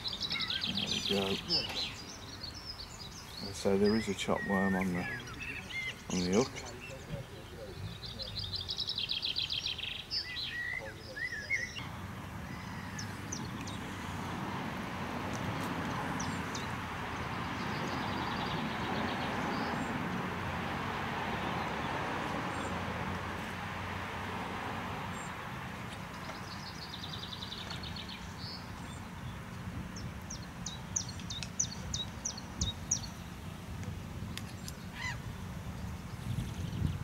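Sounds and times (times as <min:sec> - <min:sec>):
small birds calling: 0:00.0 - 0:14.5, 0:15.3 - 0:20.3, 0:25.1 - 0:37.0.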